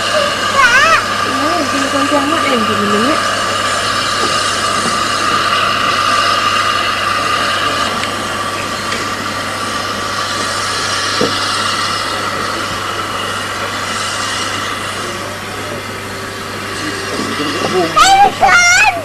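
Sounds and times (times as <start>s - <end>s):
machine hum and whine: 0.0s - 19.0s.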